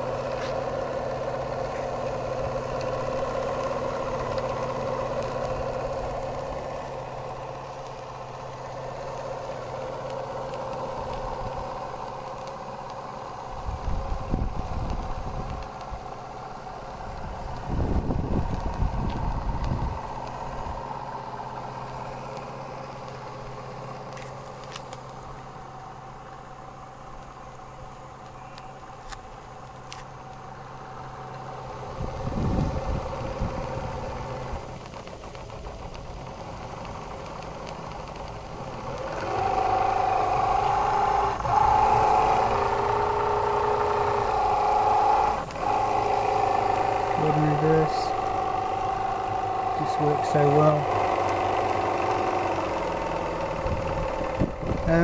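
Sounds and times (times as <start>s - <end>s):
model steam engine running: 0.0s - 24.8s, 30.2s - 55.0s
steady whine: 0.0s - 55.0s.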